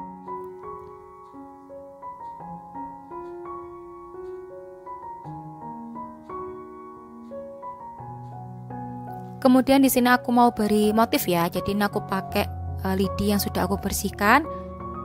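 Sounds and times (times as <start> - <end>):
keyboard music with held notes: 0.0 - 15.0.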